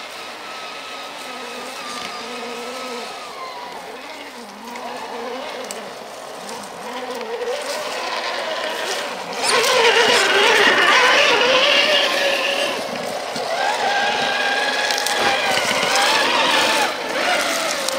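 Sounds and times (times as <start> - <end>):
toy truck electric motor whining: 0.0 - 17.9.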